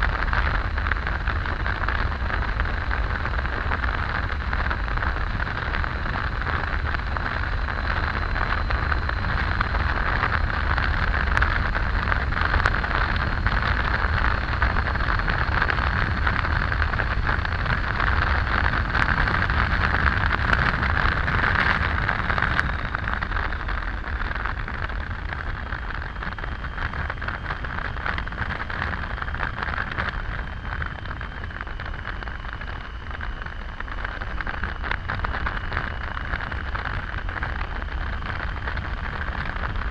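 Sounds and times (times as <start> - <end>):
deep rumble: 0.0 - 39.9
motorcycle road noise: 0.0 - 39.9.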